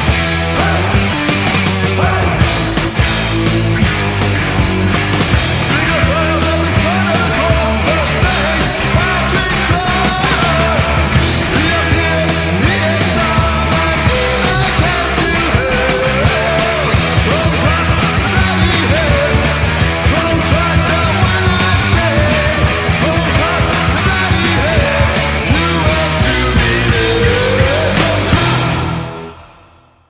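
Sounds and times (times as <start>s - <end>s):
speed metal band playing: 0.0s - 30.0s.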